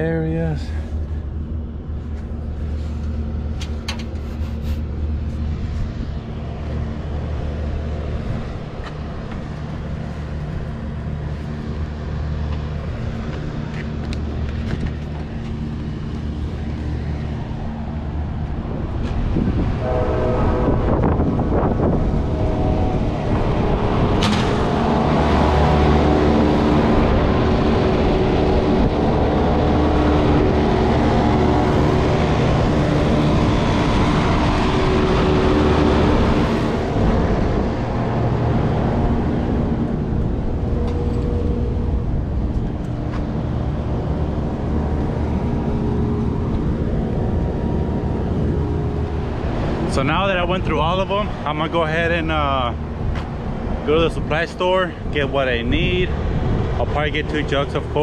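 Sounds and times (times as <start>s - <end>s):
hvac units droning: 0.0s - 58.0s.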